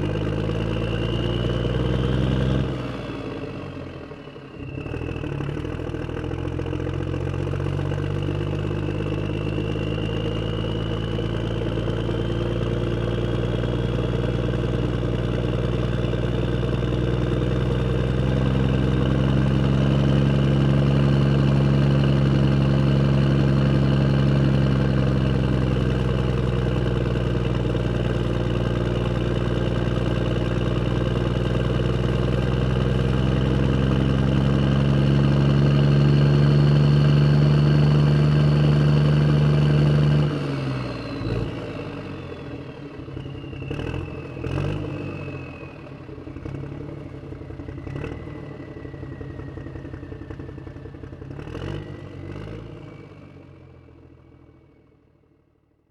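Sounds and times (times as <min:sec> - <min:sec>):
vehicle engine running: 0:00.0 - 0:55.6.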